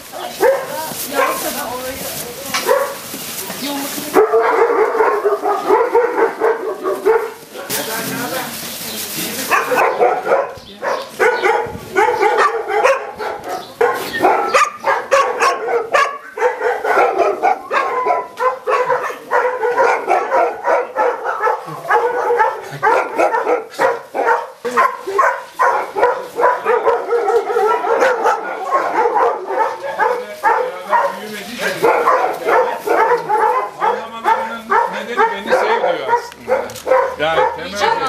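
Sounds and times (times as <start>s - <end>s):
many dogs barking: 0.0s - 38.0s.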